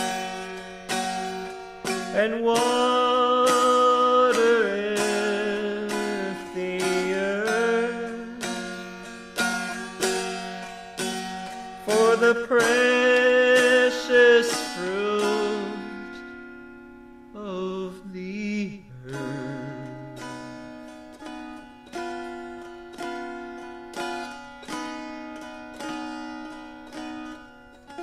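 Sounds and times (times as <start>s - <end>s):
plucked strings: 0.0s - 28.0s.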